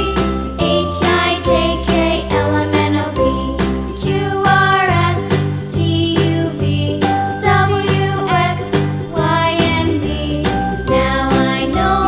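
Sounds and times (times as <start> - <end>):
upbeat children's tune: 0.0 - 12.0.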